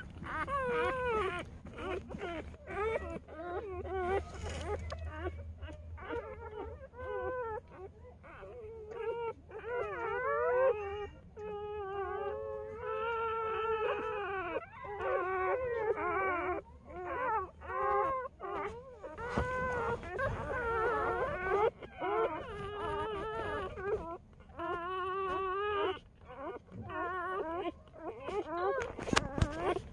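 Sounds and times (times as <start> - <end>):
puppies whimpering and squealing: 0.0 - 29.9.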